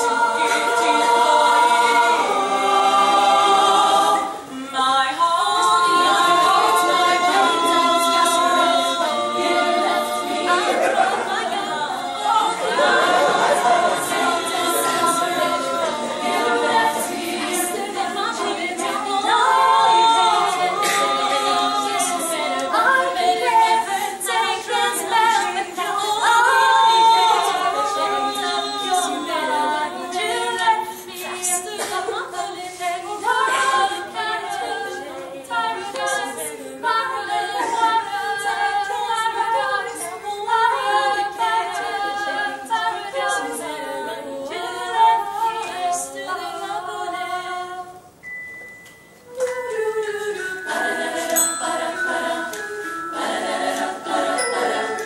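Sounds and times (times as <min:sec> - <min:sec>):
women's choir singing: 0:00.0 - 0:48.3, 0:49.2 - 0:55.0.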